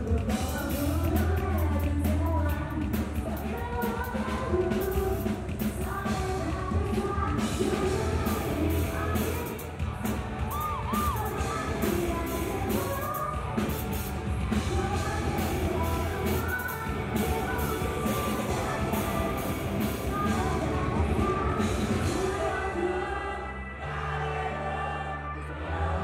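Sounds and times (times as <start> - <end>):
woman singing into microphone: 0.0 - 26.0
live rock band playing: 0.1 - 22.9.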